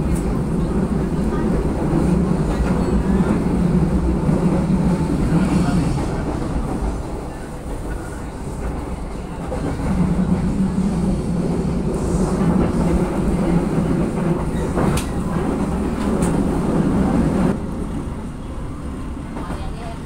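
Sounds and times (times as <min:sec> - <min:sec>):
train carriage rumbling on rails: 0:00.0 - 0:20.0.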